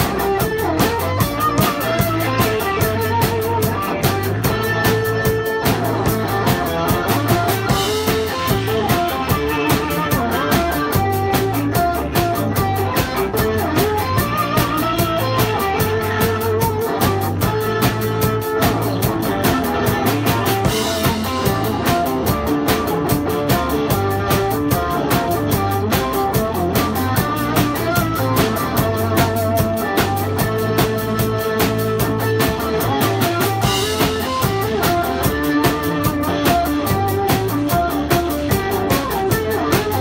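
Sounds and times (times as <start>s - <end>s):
drum kit played live: 0.0s - 40.0s
electric guitar backing music: 0.0s - 40.0s.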